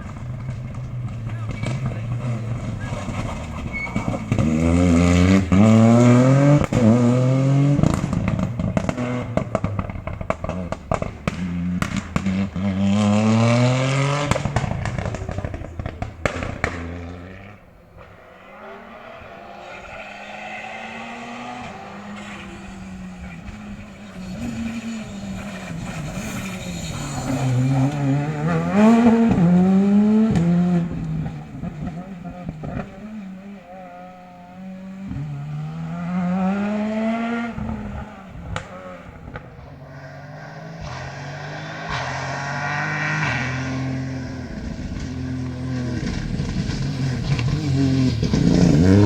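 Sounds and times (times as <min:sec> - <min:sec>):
exhaust popping and crackling: 0:00.0 - 0:33.6, 0:36.6 - 0:49.0
rally car engine accelerating: 0:00.0 - 0:49.0.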